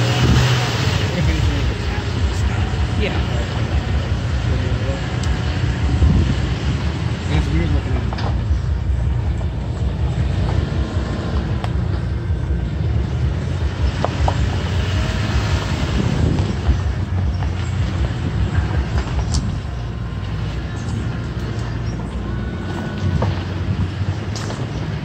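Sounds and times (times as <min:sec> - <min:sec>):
truck engine and tyres rumbling: 0:00.0 - 0:25.0.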